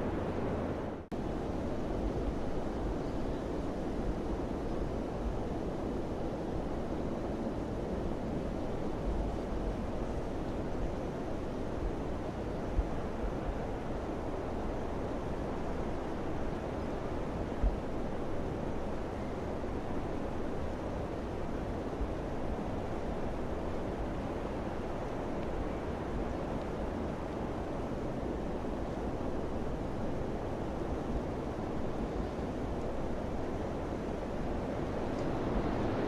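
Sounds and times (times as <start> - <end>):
steady wind noise: 0.0 - 36.0.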